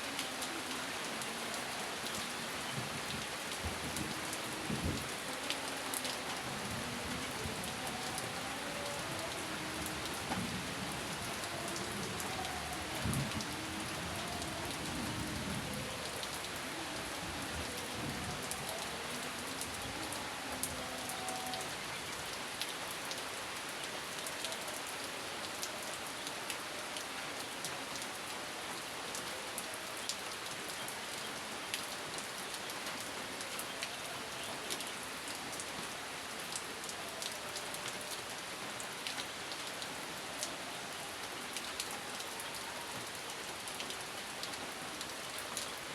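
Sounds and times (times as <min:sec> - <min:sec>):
rain drops ticking: 0:00.0 - 0:45.9.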